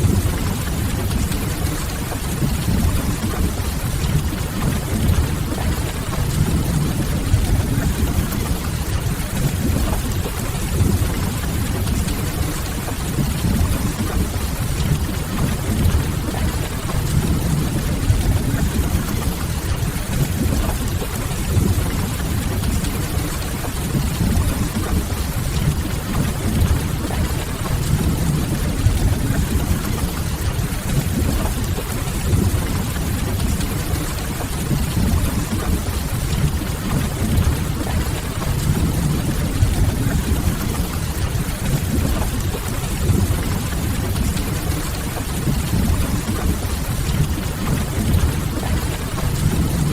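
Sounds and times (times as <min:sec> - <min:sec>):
steady rain: 0:00.0 - 0:49.9.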